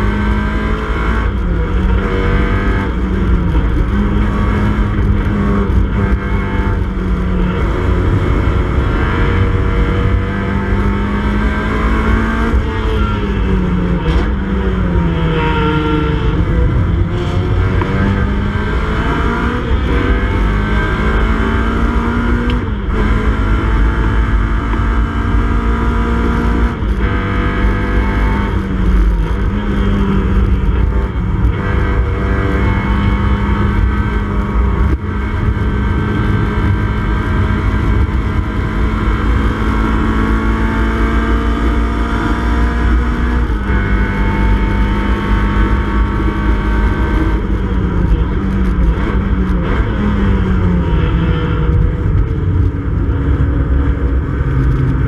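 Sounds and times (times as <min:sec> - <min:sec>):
car engine revving: 0:00.0 - 0:55.0
wind and road noise: 0:00.0 - 0:55.0.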